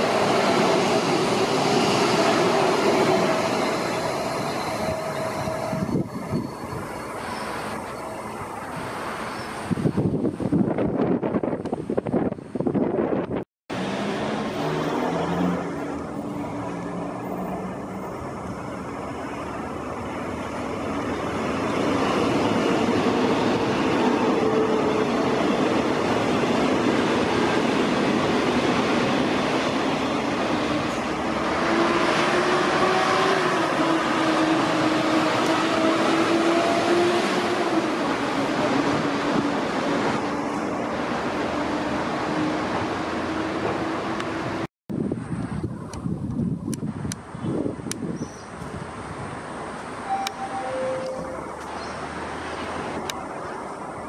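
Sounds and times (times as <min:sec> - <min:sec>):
train rail noise: 0:00.0 - 0:54.0.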